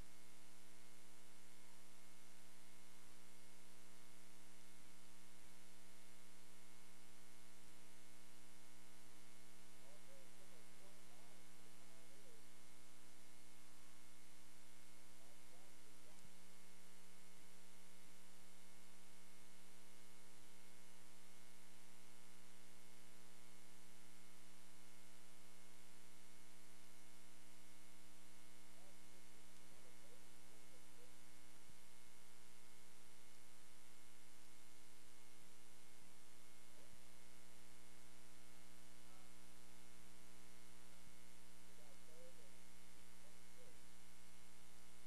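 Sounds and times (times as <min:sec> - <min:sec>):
electrical mains hum and hiss: 0:00.0 - 0:45.0.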